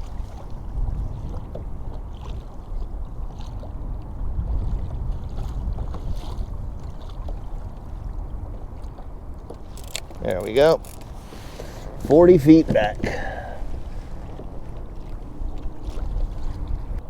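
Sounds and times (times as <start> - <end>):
water washing along a hull: 0.0 - 17.0
wind rumble on microphone: 0.0 - 17.0.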